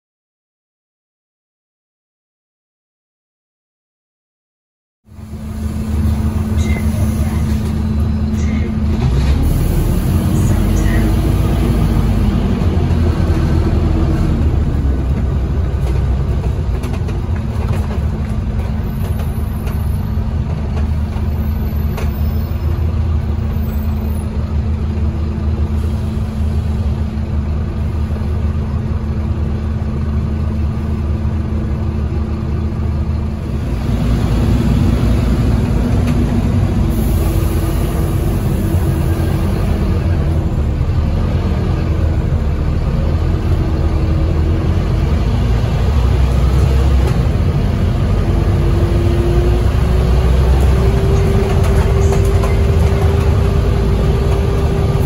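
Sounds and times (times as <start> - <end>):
bus diesel engine drone: 5.0 - 55.0.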